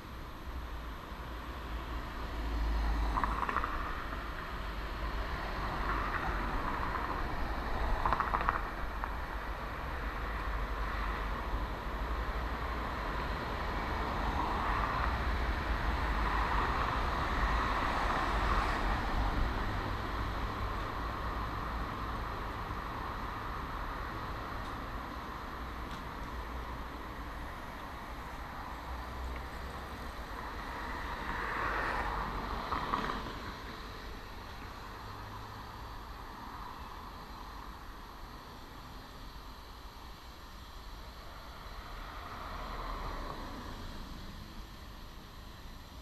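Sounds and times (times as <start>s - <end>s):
cars passing with tyre hiss: 0.0s - 46.0s
low traffic rumble: 0.0s - 46.0s.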